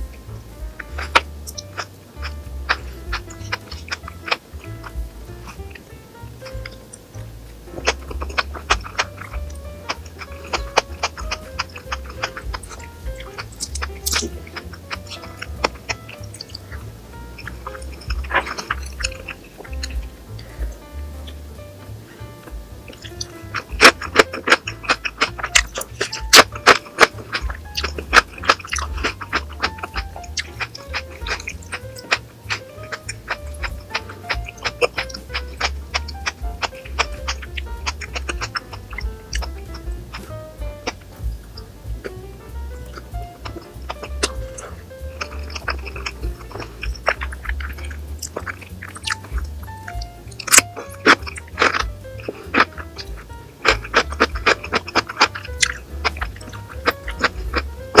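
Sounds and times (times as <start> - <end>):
soft background music: 0.0 - 58.0
crunchy food being eaten: 7.8 - 21.4, 22.8 - 41.7, 42.9 - 58.0.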